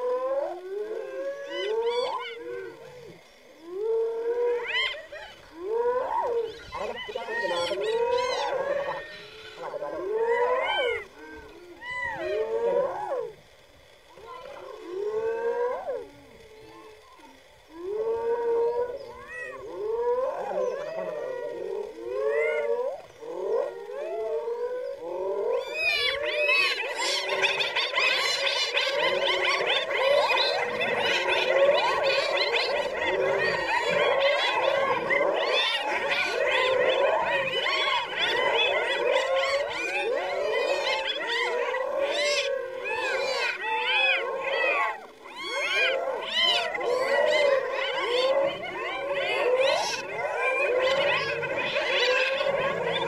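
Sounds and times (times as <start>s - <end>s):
hyenas wailing calls: 0.0s - 53.0s.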